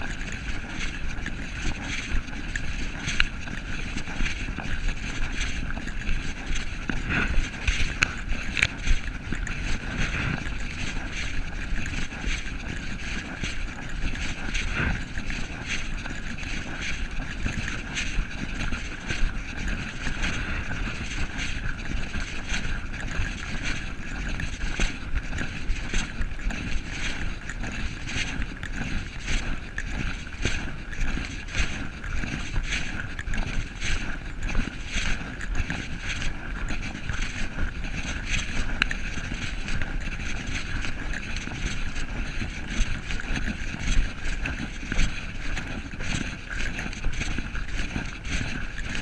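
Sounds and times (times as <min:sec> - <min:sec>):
camera rubbing in case: 0:00.0 - 0:49.0
wind on microphone: 0:00.0 - 0:49.0.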